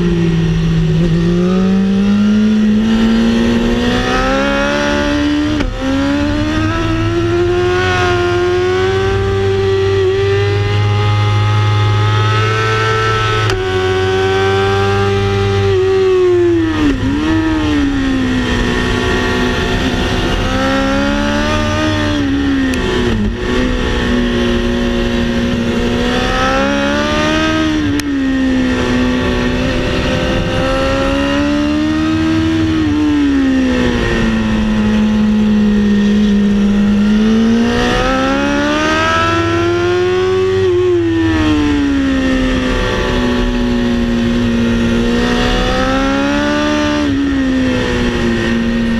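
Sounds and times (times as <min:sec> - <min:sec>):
racing car engine accelerating: 0:00.0 - 0:48.9.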